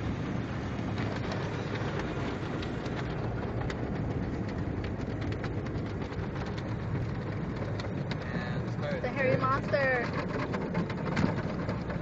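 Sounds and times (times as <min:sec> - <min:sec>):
car wash low rumble: 0:00.0 - 0:12.0.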